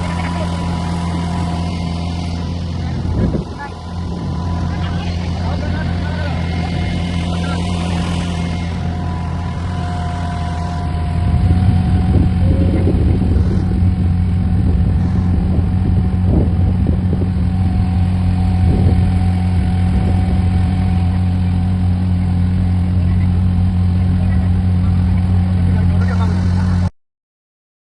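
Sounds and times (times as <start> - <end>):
engine humming: 0.0 - 26.9.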